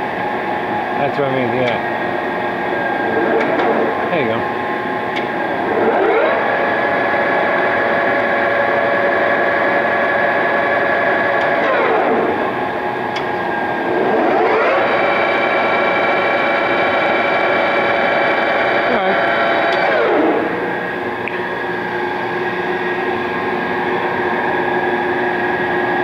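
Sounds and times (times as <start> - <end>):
lathe gearing whine: 0.0 - 26.0.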